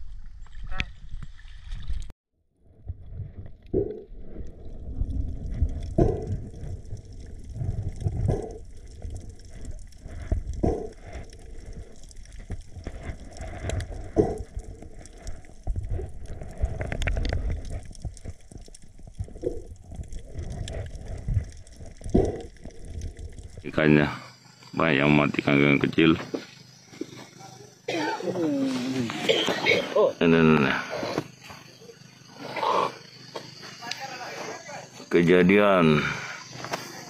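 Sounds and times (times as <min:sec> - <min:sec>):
muffled water sloshing and gurgling: 0:00.0 - 0:33.9.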